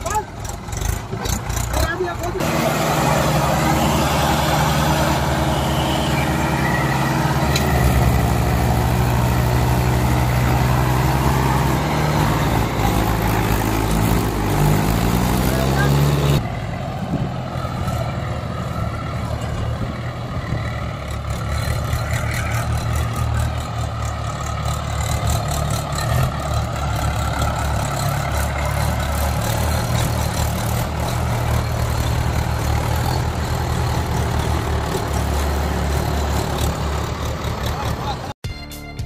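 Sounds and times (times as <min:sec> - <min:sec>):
tractor diesel engines under load: 0:00.0 - 0:39.0.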